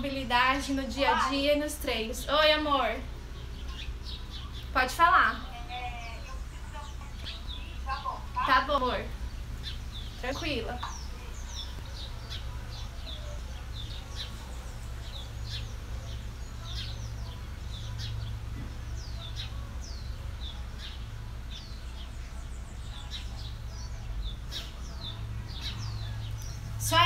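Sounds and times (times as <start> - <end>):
small birds chirping: 0.0 - 27.0
steady low hum: 0.0 - 27.0.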